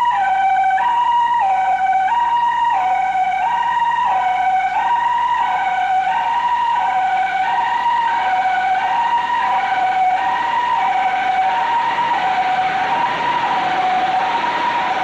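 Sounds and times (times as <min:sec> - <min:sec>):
two-tone siren: 0:00.0 - 0:15.0.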